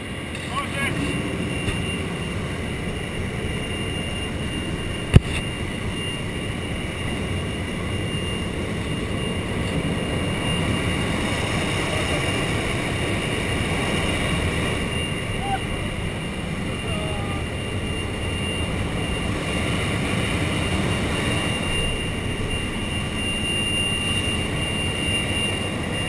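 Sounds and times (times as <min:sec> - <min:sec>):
airplane engine drone: 0:00.0 - 0:26.0
high whine: 0:00.0 - 0:26.0.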